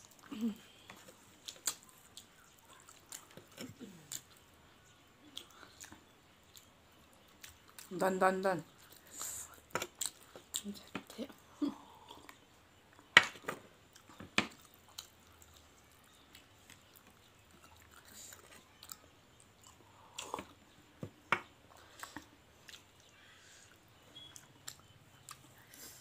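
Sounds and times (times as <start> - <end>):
chewing and mouth sounds: 0.0 - 7.9, 8.7 - 11.1, 13.9 - 20.7, 21.7 - 26.0.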